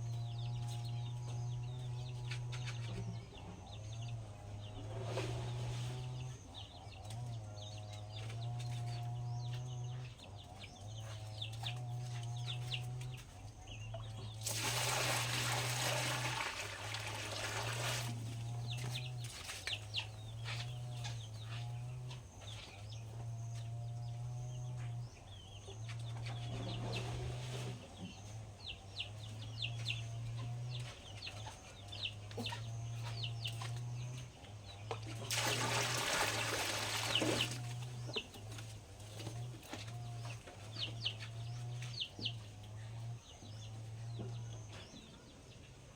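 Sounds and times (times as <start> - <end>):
chickens clucking and peeping: 0.0 - 14.4, 18.1 - 35.3, 36.4 - 45.9.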